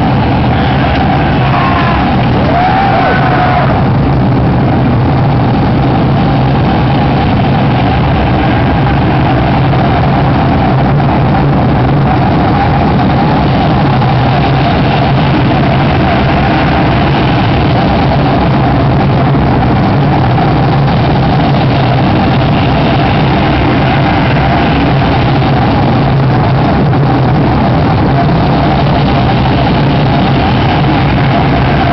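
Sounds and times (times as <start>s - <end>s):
steady low drone: 0.0s - 31.9s
wall of dense noise: 0.0s - 31.9s.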